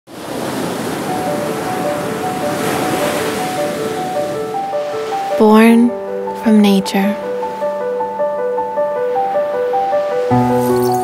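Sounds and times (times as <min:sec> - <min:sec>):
ocean surf on beach: 0:00.1 - 0:11.0
soft background music: 0:01.0 - 0:11.0.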